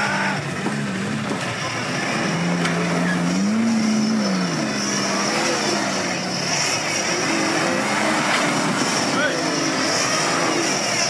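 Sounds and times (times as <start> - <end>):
off-road vehicle engine under load: 0.0 - 11.0.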